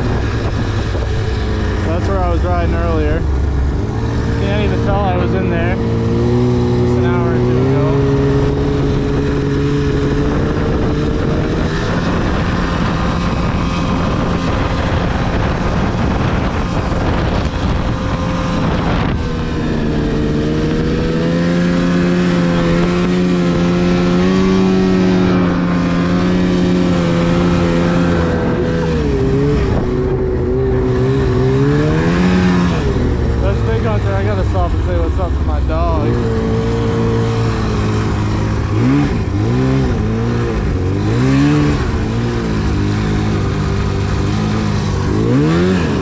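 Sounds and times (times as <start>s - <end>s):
snowmobile engine running: 0.0s - 46.0s
track and snow noise: 0.0s - 46.0s.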